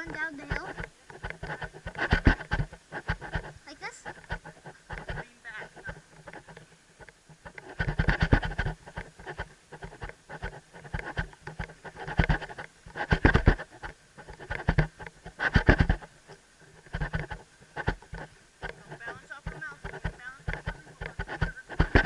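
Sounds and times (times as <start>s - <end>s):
camera rubbing against helmet: 0.0s - 22.0s.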